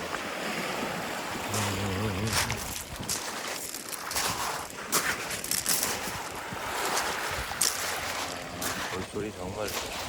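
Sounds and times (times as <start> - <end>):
surf washing over pebbles: 0.0 - 10.0.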